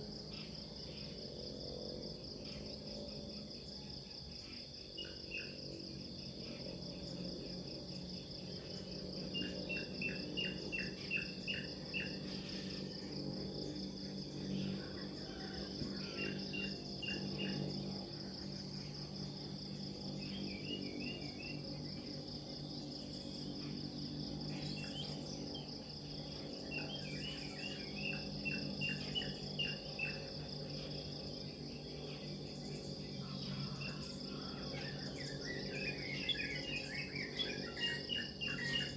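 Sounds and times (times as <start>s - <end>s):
crickets trilling: 0.0s - 38.9s
low steady hum: 0.0s - 38.9s
quick insect chirps: 0.0s - 38.9s.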